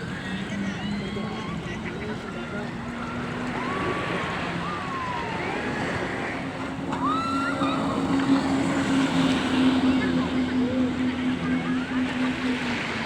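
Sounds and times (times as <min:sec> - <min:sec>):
jet ski engine humming: 0:00.0 - 0:13.0
surf washing: 0:00.0 - 0:13.0.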